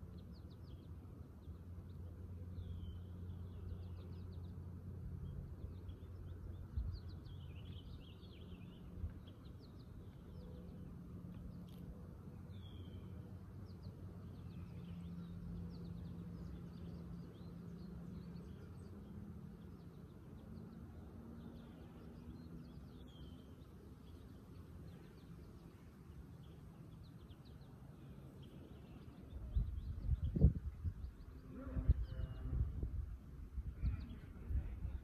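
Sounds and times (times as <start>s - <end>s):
low steady hum: 0.0s - 35.0s
small birds chirping: 0.0s - 35.0s.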